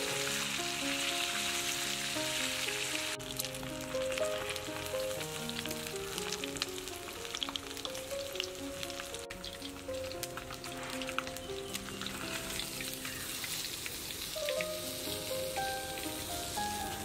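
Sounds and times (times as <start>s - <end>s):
background music: 0.0s - 17.0s
fish frying in oil: 0.0s - 17.0s.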